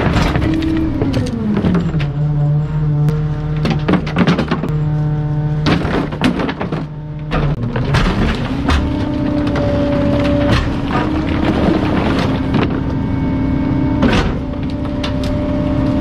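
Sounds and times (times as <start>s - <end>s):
compactor cracking and thudding: 0.0s - 2.4s, 3.0s - 4.9s, 5.6s - 13.3s, 13.9s - 16.0s
hydraulics whining: 0.0s - 16.0s.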